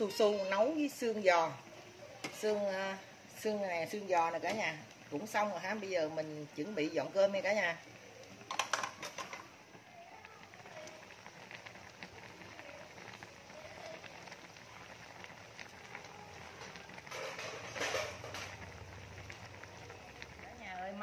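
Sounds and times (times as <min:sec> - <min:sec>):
pots bubbling and sizzling: 0:00.0 - 0:21.0.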